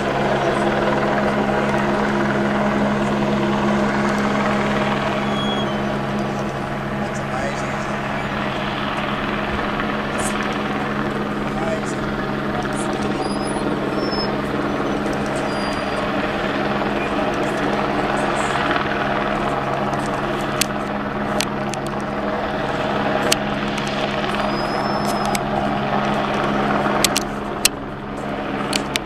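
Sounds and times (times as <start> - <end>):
helicopter rotor and engine drone: 0.0 - 29.0.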